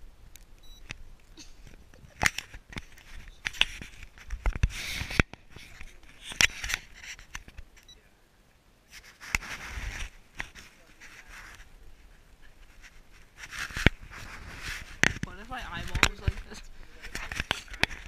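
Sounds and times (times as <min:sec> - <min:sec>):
rustling against microphone: 0:00.8 - 0:07.9, 0:08.9 - 0:18.0.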